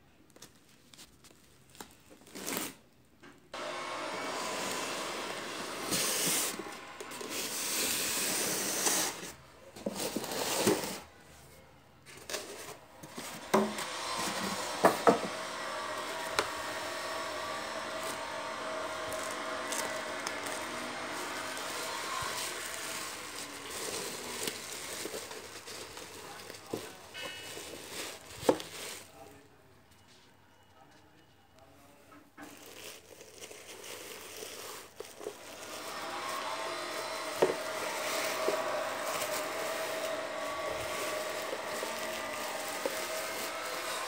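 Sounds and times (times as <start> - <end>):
bubble wrap and cardboard rustling: 0.0 - 3.0, 3.6 - 29.6, 32.4 - 44.0.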